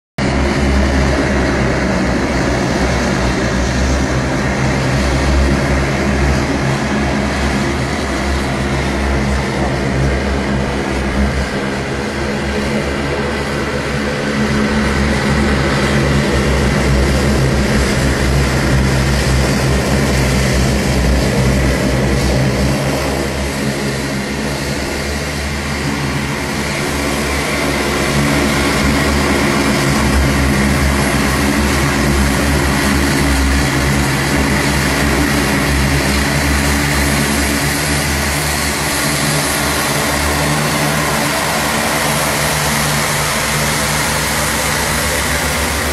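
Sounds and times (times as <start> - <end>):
propeller aircraft engines droning: 0.2 - 45.9.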